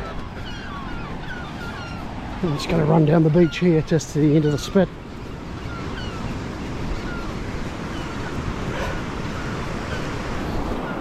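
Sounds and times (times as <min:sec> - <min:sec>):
shorebirds chirping: 0:00.0 - 0:11.0
wind buffeting microphone: 0:00.0 - 0:11.0.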